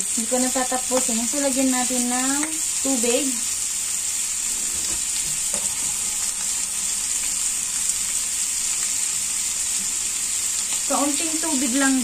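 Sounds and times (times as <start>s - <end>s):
food sizzling in a wok: 0.0s - 12.0s
light popping of frying food: 0.0s - 12.0s.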